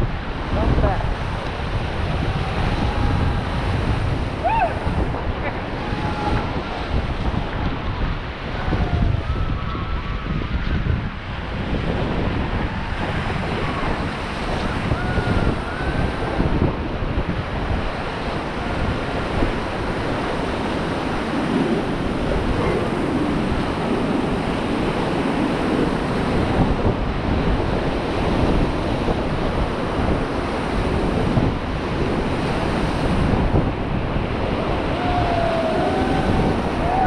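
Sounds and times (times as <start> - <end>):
rushing river water: 0.0 - 37.0
wind buffeting microphone: 0.0 - 37.0.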